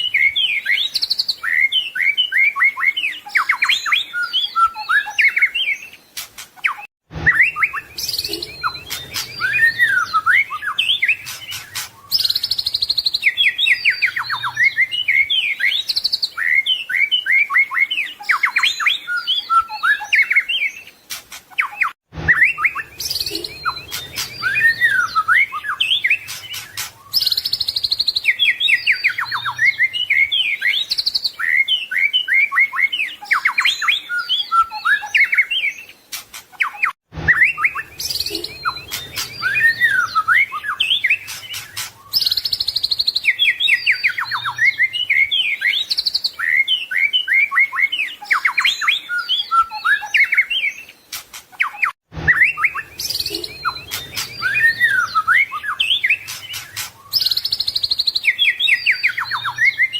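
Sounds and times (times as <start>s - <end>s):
songbird singing whistles and trills: 0.0s - 59.9s.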